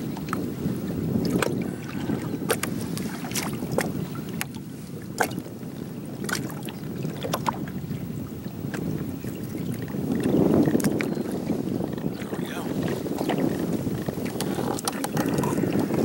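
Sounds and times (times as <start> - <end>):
water lapping against hull: 0.0 - 16.0
wind on microphone: 0.0 - 16.0.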